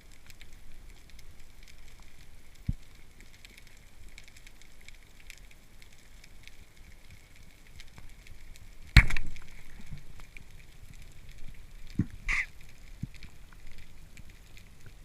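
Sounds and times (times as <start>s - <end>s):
fine underwater crackling: 0.0s - 15.0s.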